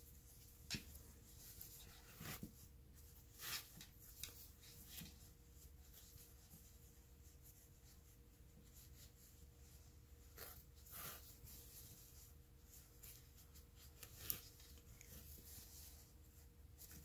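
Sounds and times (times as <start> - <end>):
rustling of wool yarn: 0.0 - 17.0.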